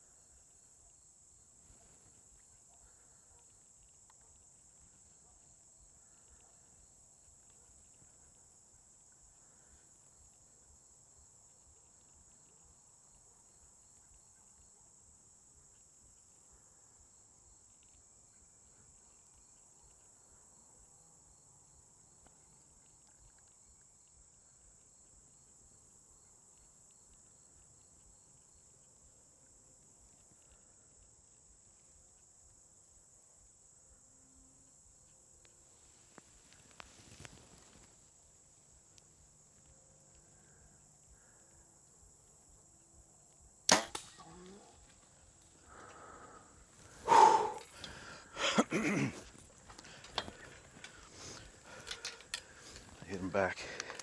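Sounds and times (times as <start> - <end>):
high-pitched insect chorus: 0.0 - 54.0
ticking insect call: 0.0 - 54.0.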